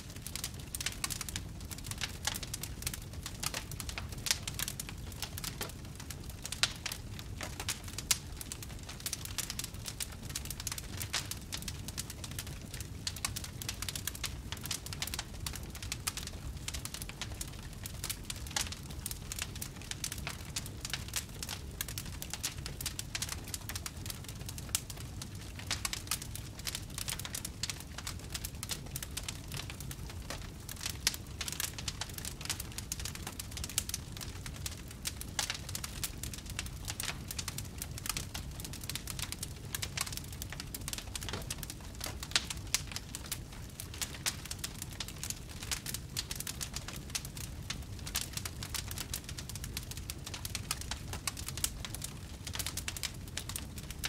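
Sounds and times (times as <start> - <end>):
low rumble of burning fire: 0.0 - 54.0
wood fire crackling and popping: 0.0 - 54.0.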